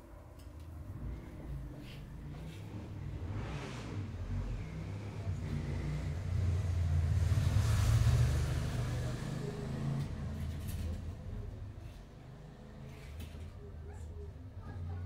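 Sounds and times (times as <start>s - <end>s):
car passing with low rumble: 0.6s - 15.0s.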